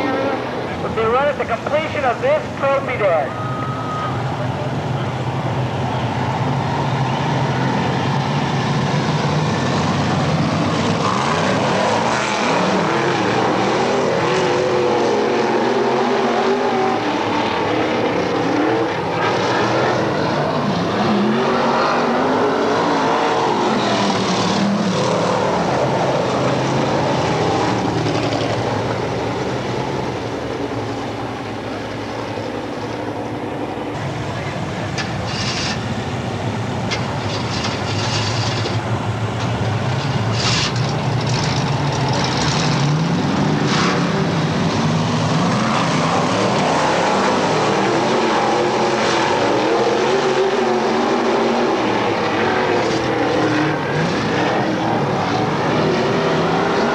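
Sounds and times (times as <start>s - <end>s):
race car engines passing: 0.0s - 56.9s.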